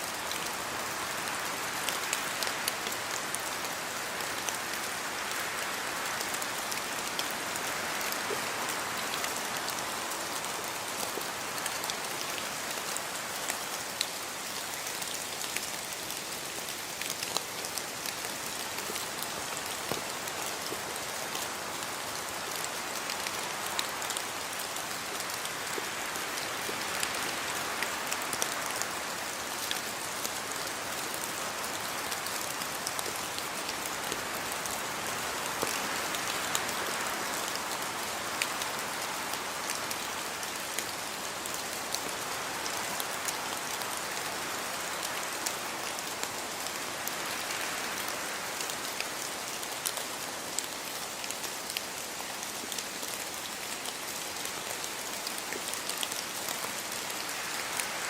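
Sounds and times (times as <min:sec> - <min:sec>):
steady rainfall: 0:00.0 - 0:58.0
raindrops ticking on a surface: 0:00.1 - 0:58.0.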